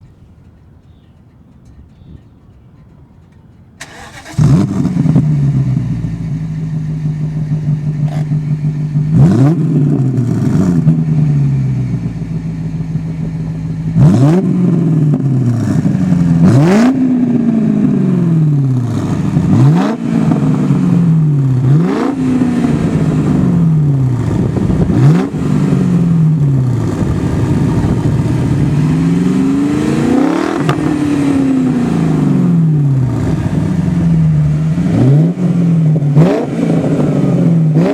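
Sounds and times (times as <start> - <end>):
car engine idling and revving: 2.8 - 37.9.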